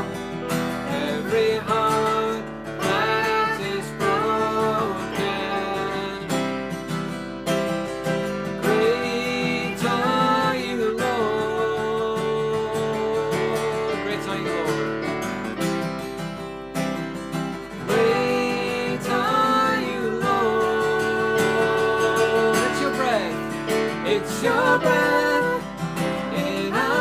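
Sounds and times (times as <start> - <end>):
man and woman singing: 0.0 - 6.7, 8.5 - 14.6, 17.7 - 27.0
electronic keyboard: 0.0 - 27.0
strummed acoustic guitar: 0.0 - 27.0.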